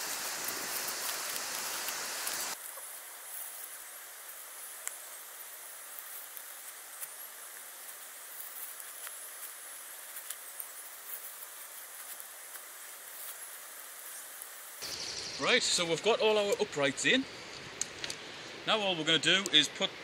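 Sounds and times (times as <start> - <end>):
rustling and small ticks: 0.0 - 16.6, 17.4 - 18.3
faint hiss: 0.0 - 20.0.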